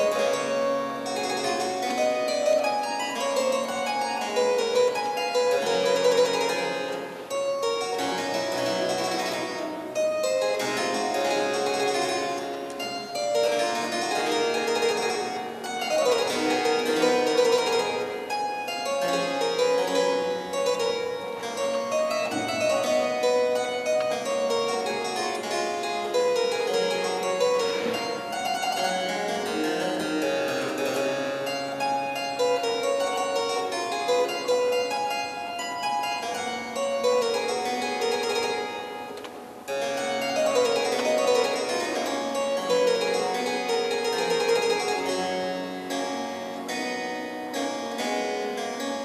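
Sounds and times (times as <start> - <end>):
harpsichord playing: 0.0 - 49.0.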